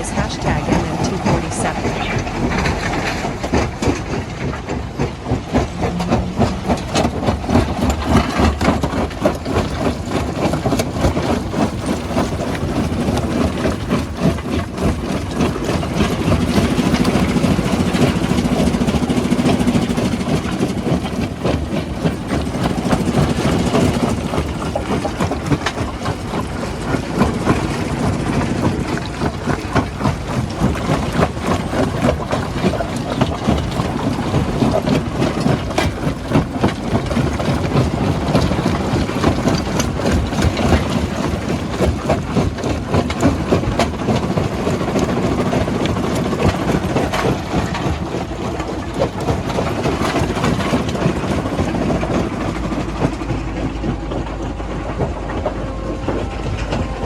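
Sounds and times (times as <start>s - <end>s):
clatter of knocks and rattles: 0.0s - 57.0s
diesel machinery engine: 0.0s - 57.0s.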